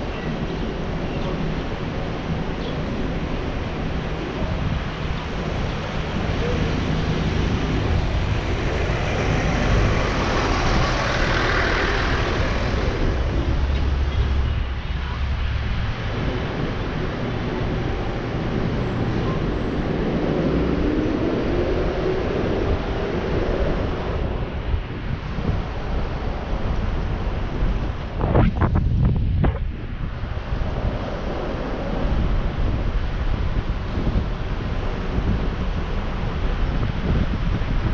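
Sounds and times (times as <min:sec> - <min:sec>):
city traffic noise: 0:00.0 - 0:37.9
wind rushing over microphone: 0:00.0 - 0:37.9.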